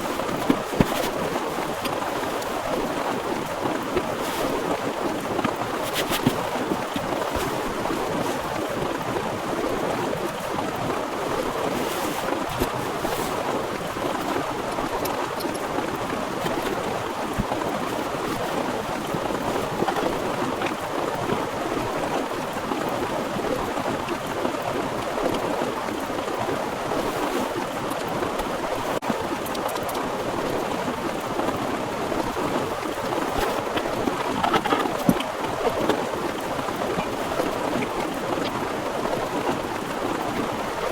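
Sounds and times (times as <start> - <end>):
rain spatters: 0.0 - 40.9.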